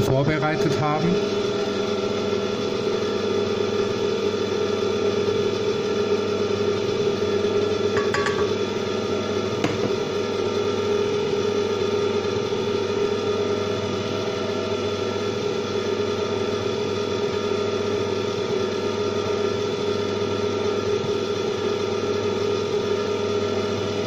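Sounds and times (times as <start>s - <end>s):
stand mixer motor running: 0.0s - 24.0s.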